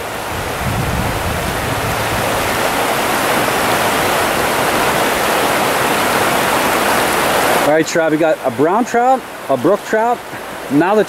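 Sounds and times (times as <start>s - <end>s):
rocky stream rushing: 0.0s - 11.0s.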